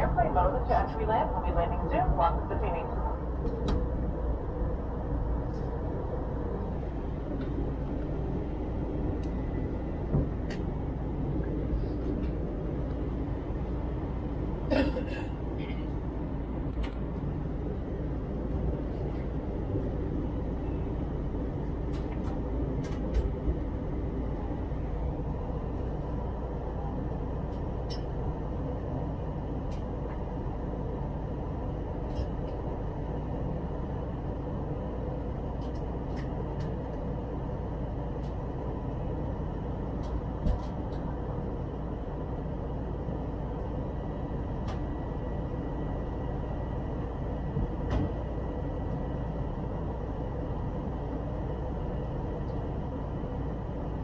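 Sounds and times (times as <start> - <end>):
airliner cabin engine noise: 0.0 - 54.0.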